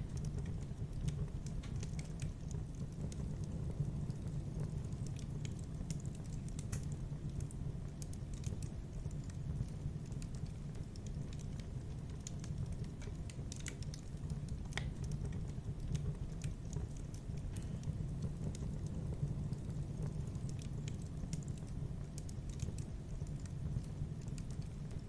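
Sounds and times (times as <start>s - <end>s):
fire crackling and popping: 0.0s - 25.0s
low rumble of flame: 0.0s - 25.0s.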